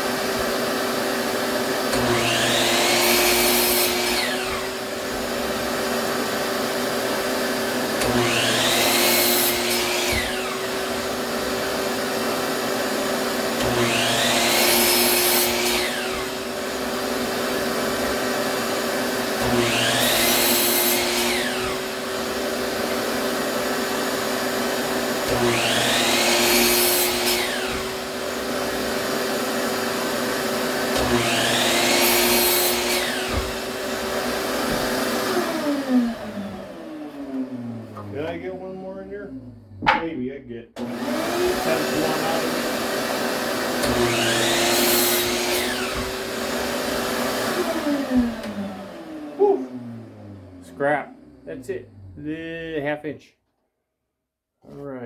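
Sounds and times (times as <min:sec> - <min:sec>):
saw motor whine under load: 0:00.0 - 0:39.8, 0:40.8 - 0:52.3
electric power saw cutting wood: 0:00.0 - 0:40.1, 0:40.8 - 0:53.0.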